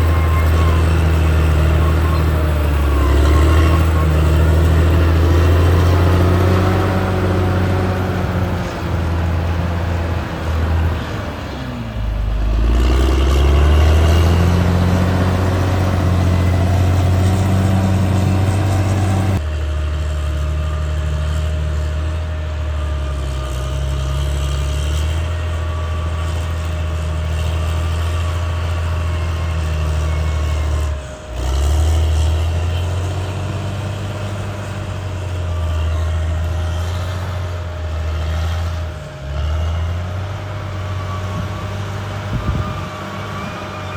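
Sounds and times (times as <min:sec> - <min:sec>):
bulldozer diesel engine droning: 0:00.0 - 0:43.9.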